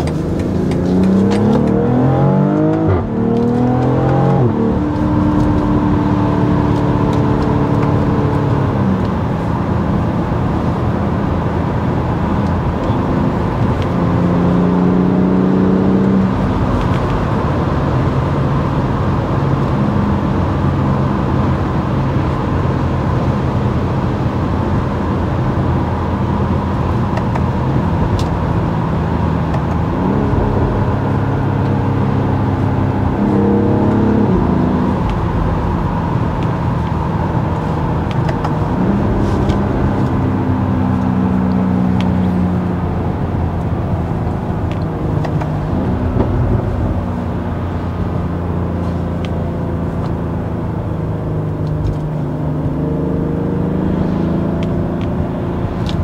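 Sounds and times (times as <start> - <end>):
car engine from inside cabin: 0.0 - 56.0
tyre and road noise: 0.0 - 56.0.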